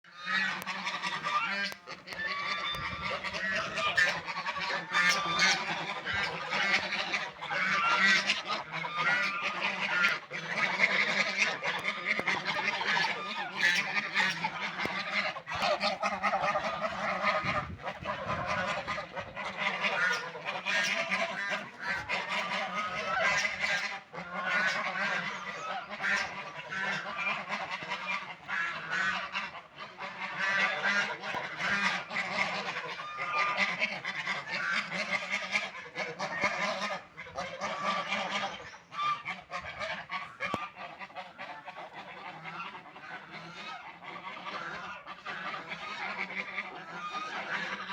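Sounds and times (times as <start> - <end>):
waterfowl honking quacks: 0.0 - 47.9.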